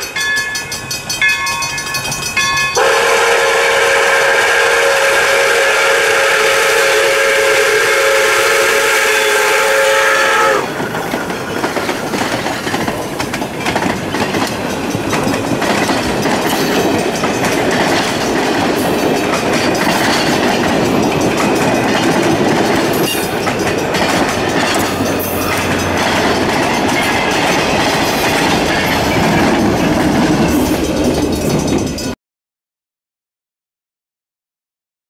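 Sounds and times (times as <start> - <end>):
train wheels running on rails: 0.0 - 32.2.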